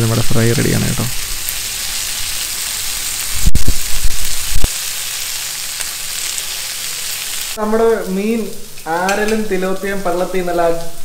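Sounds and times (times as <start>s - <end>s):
fish sizzling in a pan: 0.0s - 9.3s.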